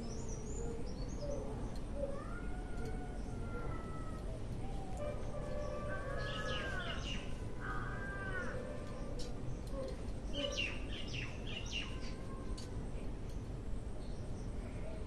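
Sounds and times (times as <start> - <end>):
birds calling and chirping: 0.0 - 15.0
steady low background noise: 0.0 - 15.0.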